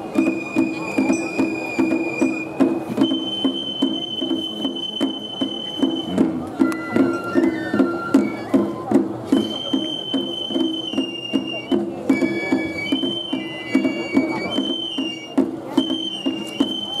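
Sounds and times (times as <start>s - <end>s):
high bamboo flutes: 0.0s - 17.0s
steady drum beat: 0.0s - 17.0s.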